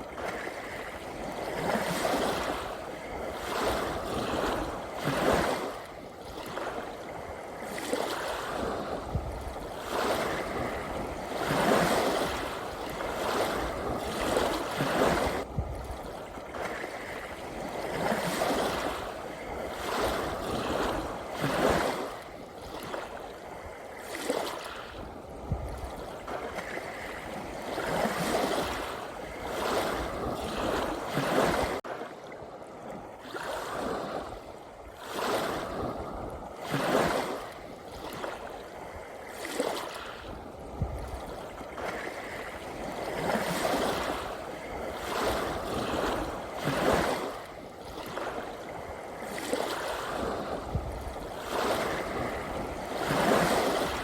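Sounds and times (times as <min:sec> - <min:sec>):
ocean waves washing and splashing: 0:00.0 - 0:54.0.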